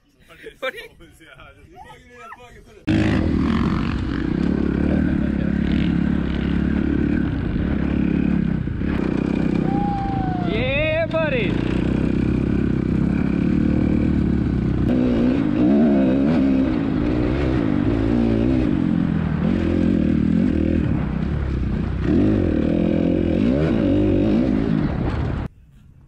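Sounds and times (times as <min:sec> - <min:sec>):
small engine revving unevenly: 0:02.9 - 0:25.4.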